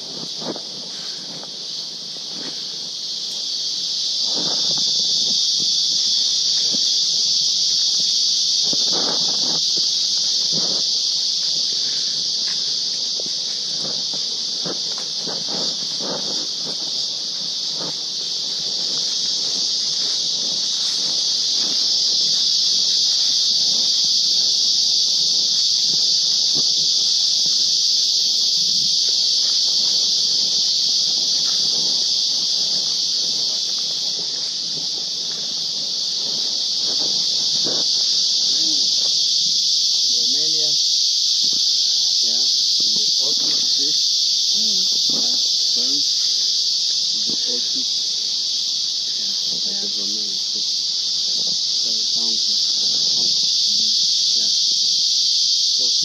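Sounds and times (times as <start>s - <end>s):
footsteps on trail: 0.0s - 42.8s, 43.5s - 49.5s
insects droning: 0.0s - 56.0s.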